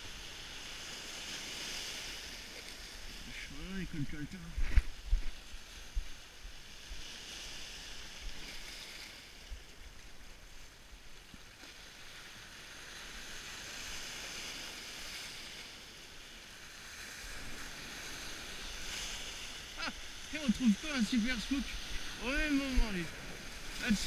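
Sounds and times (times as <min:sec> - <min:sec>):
sea surf among boulders: 0:00.0 - 0:24.0.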